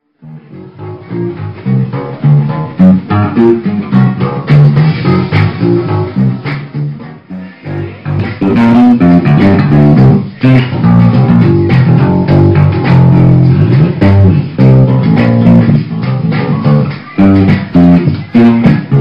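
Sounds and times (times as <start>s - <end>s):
electric bass guitar bass line: 0.0s - 19.0s.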